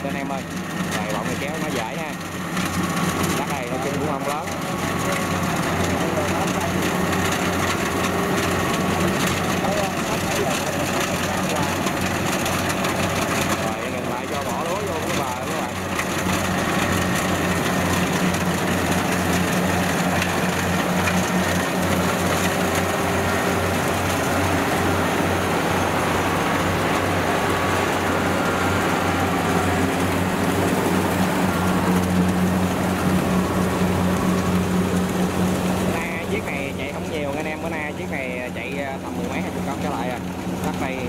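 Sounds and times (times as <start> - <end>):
diesel engine drone: 0.0 - 41.0
threshing machinery noise: 0.0 - 41.0.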